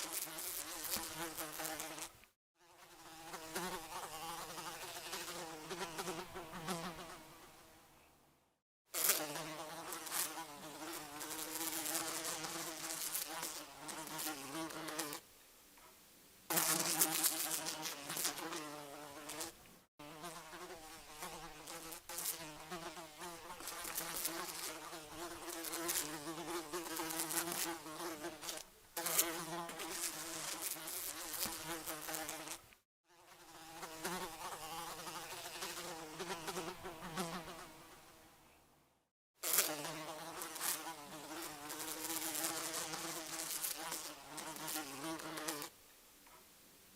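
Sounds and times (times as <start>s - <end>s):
fly buzzing: 0.0s - 7.6s, 8.9s - 15.2s, 16.5s - 38.1s, 39.4s - 45.7s.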